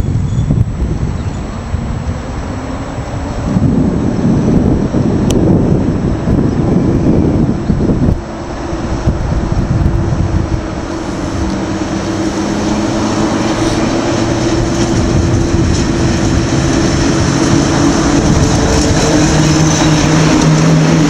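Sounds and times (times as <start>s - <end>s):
electric locomotive hum: 0.0s - 21.0s
train rolling noise: 0.0s - 21.0s.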